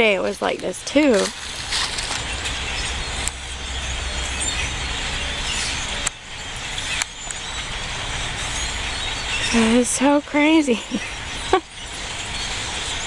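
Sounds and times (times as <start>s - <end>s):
large flock of birds chattering: 0.0s - 13.0s
low steady rumble: 0.0s - 13.0s.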